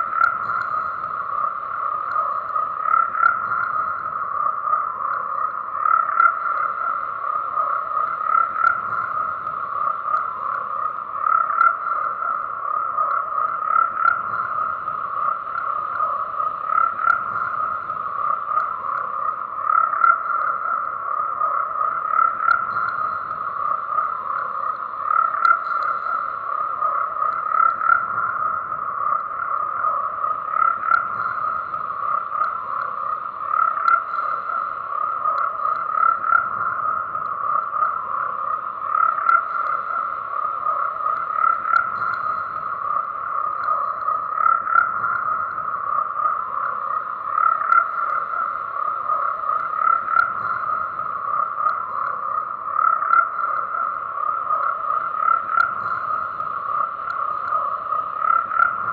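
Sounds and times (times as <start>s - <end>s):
frogs croaking chorus: 0.0s - 58.9s.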